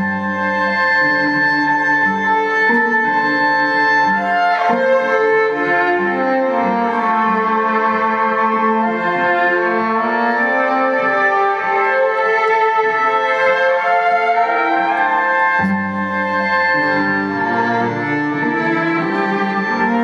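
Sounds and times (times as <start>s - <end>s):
layered bowed violin notes: 0.0s - 20.0s.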